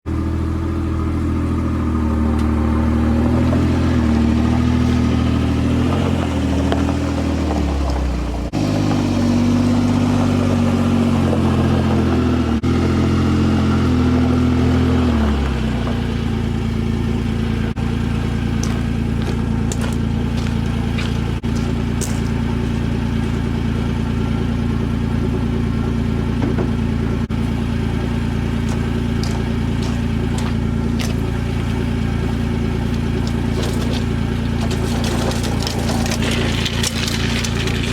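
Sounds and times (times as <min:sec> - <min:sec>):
small gasoline engine running: 0:00.1 - 0:37.9.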